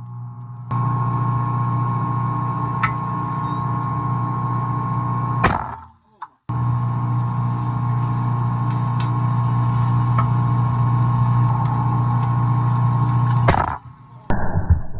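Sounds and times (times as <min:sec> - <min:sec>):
microwave oven humming: 0:00.0 - 0:14.3.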